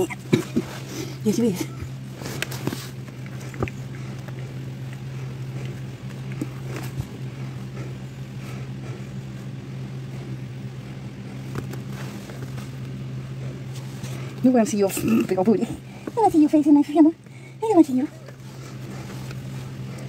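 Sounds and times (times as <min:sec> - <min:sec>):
low mechanical hum: 0:00.0 - 0:20.0
rustles: 0:00.4 - 0:16.5, 0:18.0 - 0:20.0.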